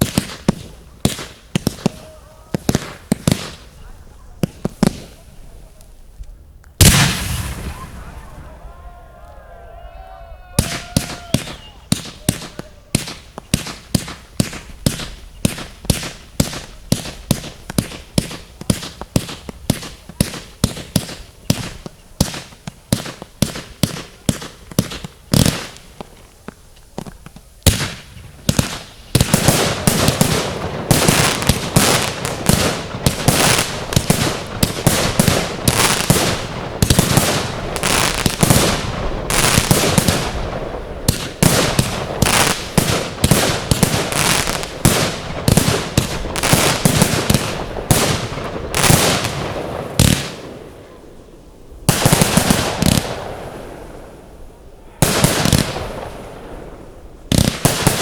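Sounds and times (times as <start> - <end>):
fireworks bangs and crackle: 0.0 - 8.8, 10.6 - 58.0.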